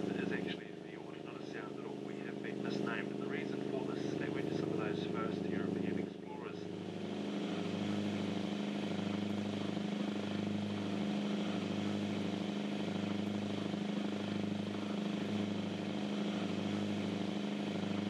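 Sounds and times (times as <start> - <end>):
boat engines throbbing drone: 0.0 - 18.0.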